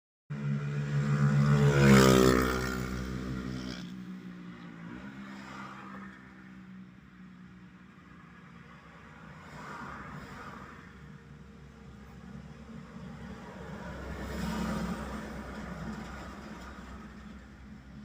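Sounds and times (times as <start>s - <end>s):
vehicle passing by: 0.3s - 6.8s, 8.2s - 18.0s.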